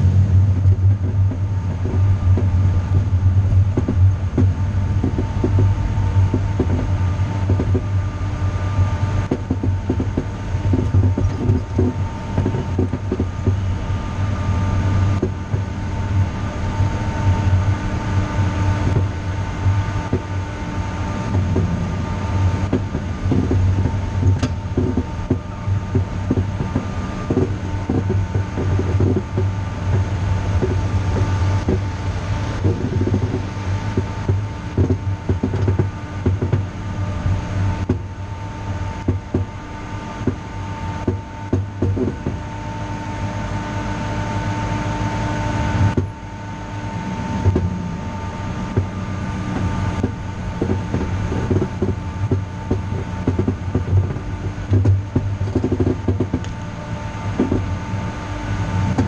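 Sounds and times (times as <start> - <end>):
faint steady whine: 0.0 - 59.0
vehicle rumbling over pavement: 0.0 - 59.0.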